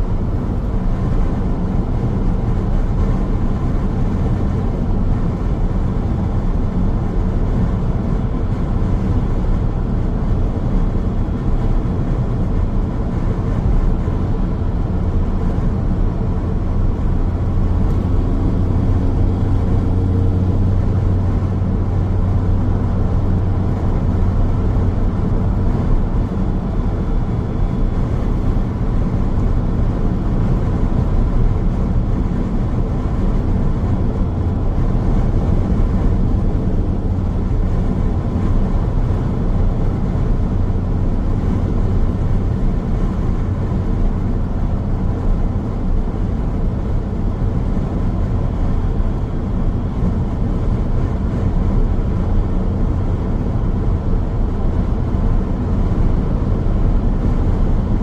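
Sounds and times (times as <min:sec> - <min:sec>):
faint engine hum: 0:00.0 - 0:58.0
tyres rumbling on road: 0:00.0 - 0:58.0.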